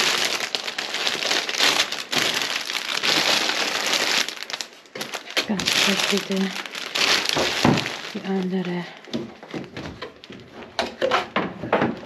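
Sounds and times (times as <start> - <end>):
cellophane wrapping crinkling: 0.0 - 11.1.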